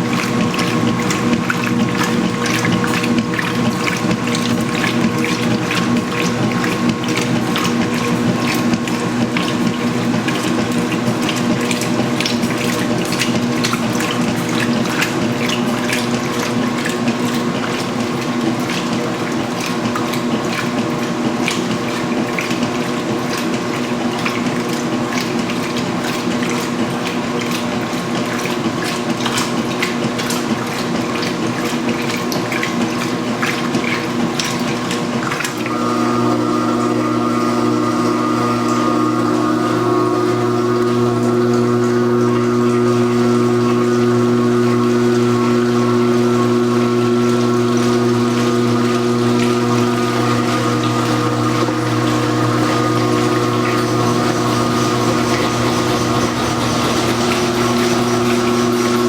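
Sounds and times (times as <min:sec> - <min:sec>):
washing machine motor hum: 0:00.0 - 0:59.0
water sloshing: 0:00.0 - 0:59.0.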